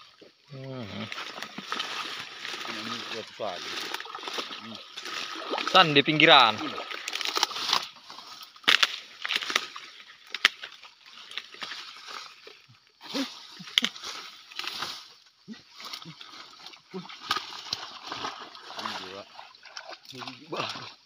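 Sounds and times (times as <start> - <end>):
rustling vegetation: 0.0 - 20.9
splashing in muddy water: 0.0 - 21.0.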